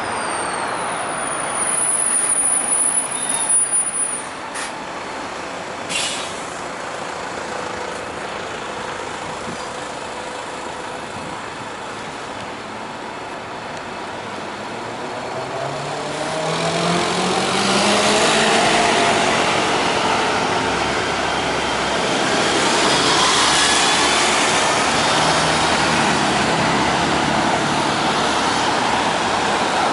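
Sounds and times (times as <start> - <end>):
vehicle engines and tyre noise: 0.0 - 29.9.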